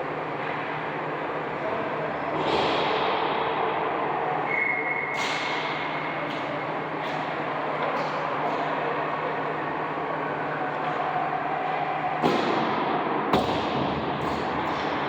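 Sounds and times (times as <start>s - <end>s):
sports game background noise: 0.0s - 15.0s.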